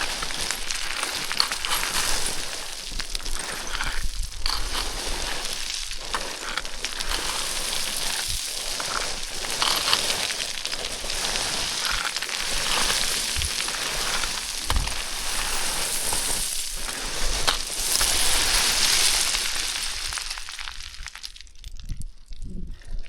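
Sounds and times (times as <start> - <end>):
boots sliding on loose scree: 0.0 - 20.3.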